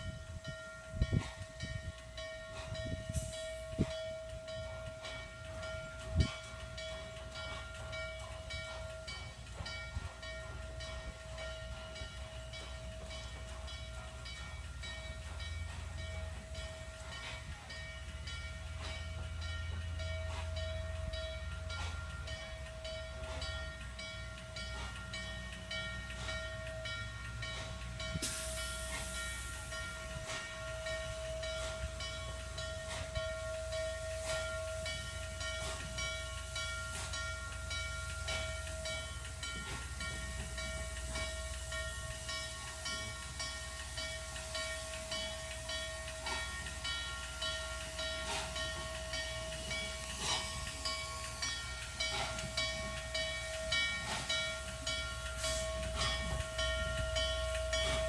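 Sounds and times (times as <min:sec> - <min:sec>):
high hiss of steam: 0:00.0 - 0:58.0
steam locomotive whine and ticking: 0:00.0 - 0:58.0.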